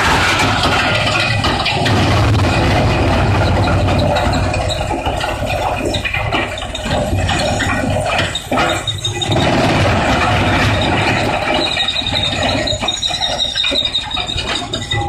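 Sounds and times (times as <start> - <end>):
high steady squealing tone: 0.0 - 15.0
wood crusher grinding wood: 0.0 - 15.0.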